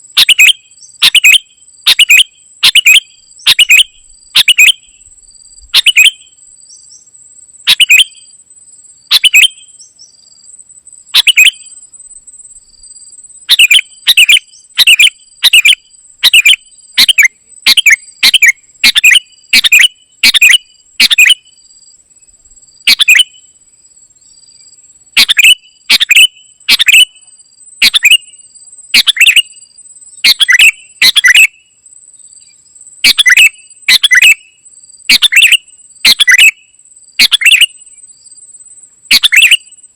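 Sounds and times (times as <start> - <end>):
bird chirping: 0.1 - 8.4, 9.1 - 10.4, 11.1 - 38.4, 39.1 - 39.9.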